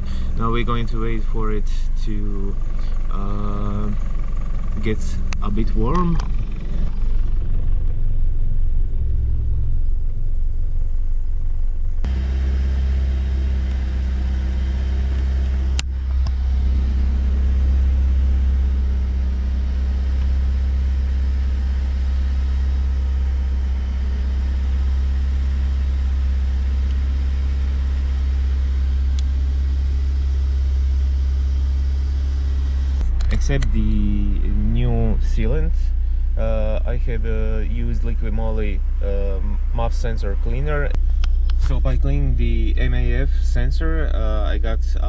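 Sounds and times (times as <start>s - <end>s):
car engine idling rough: 0.0s - 45.0s.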